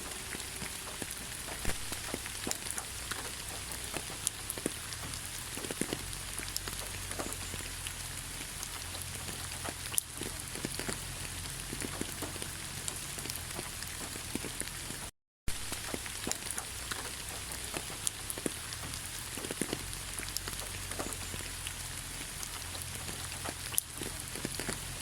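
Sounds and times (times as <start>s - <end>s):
rain hissing in a forest: 0.0s - 25.0s
raindrops ticking close by: 0.0s - 25.0s.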